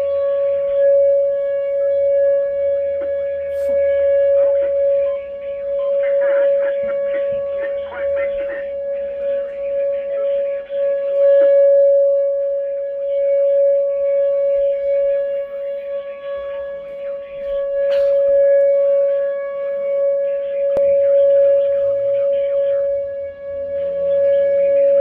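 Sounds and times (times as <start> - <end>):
outdoor warning siren steady tone: 0.0 - 25.0.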